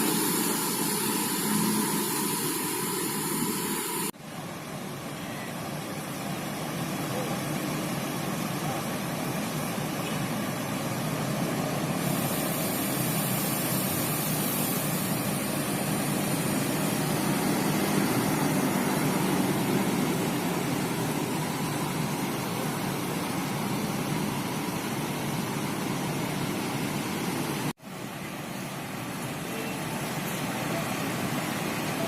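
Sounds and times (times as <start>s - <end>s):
buses idling: 0.0s - 32.0s.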